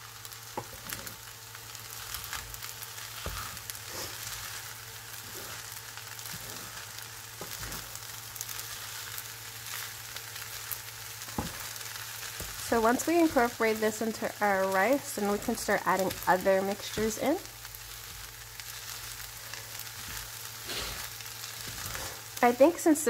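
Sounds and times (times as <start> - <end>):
fried rice sizzling: 0.0 - 23.0.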